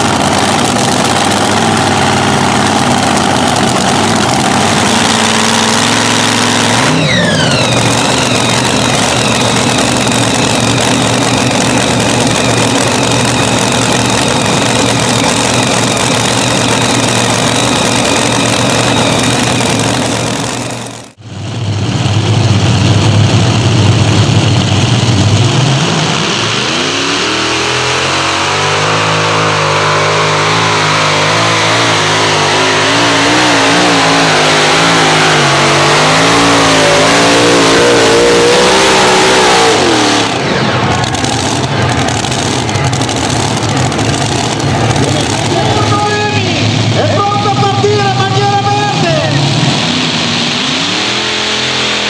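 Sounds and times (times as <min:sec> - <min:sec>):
high-revving engines roaring: 0:00.0 - 0:52.0.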